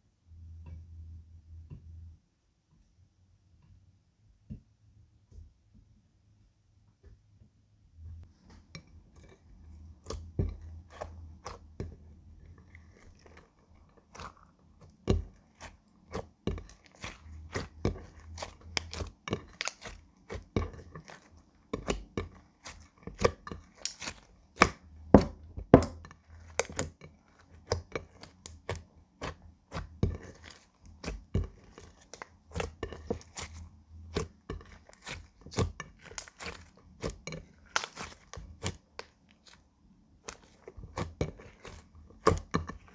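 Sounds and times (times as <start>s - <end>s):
slime squishing with clicks and pops: 8.5s - 42.9s.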